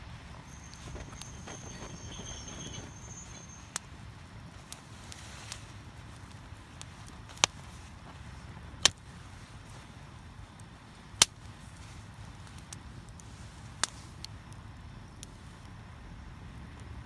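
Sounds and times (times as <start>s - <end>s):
campfire wood crackling: 0.0s - 17.0s
low steady rumble: 0.0s - 17.0s.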